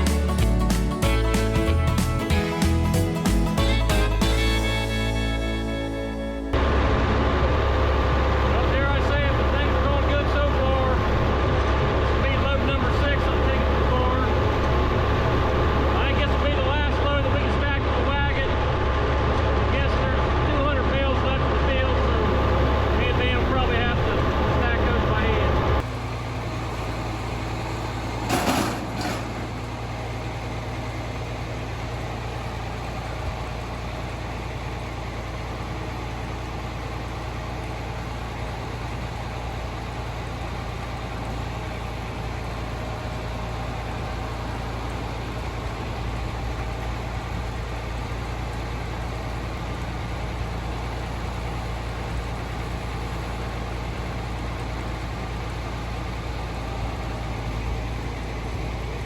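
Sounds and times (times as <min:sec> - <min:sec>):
engine humming: 0:00.0 - 0:59.0.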